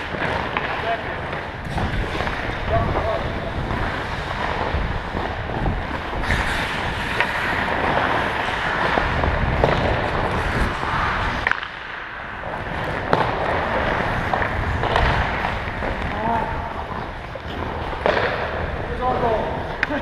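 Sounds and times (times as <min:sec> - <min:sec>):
low motion rumble: 0:00.0 - 0:19.9
ice skates scraping: 0:00.0 - 0:20.0.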